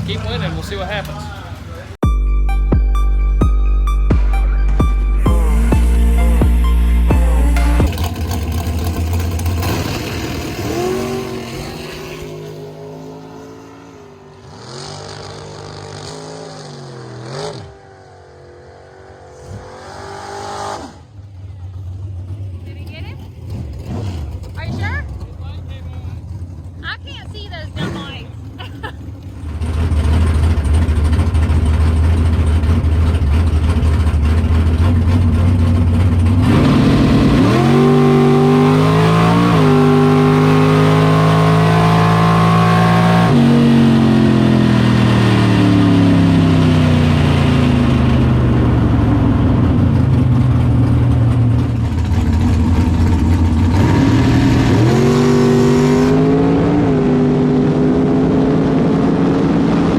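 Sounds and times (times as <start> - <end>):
race car engine revving: 0.0 - 2.0, 3.9 - 59.9.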